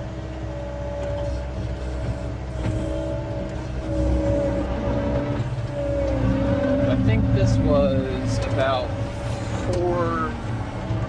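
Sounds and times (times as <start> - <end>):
diesel engine whining under load: 0.0 - 11.0.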